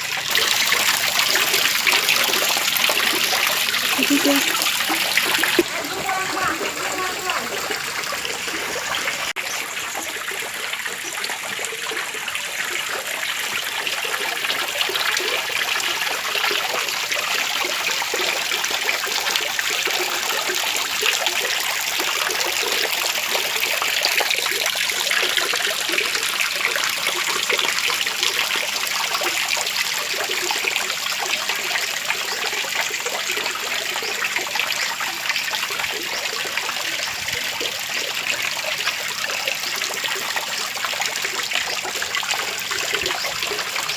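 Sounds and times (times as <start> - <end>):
water trickling from waterfall: 0.0 - 43.9.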